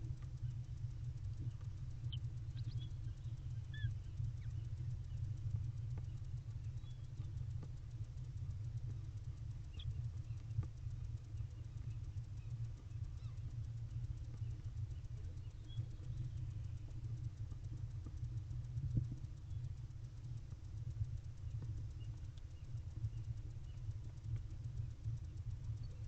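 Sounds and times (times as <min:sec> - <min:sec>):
steady low hum: 0:00.0 - 0:26.0
small birds chirping: 0:00.2 - 0:19.7, 0:21.4 - 0:26.0.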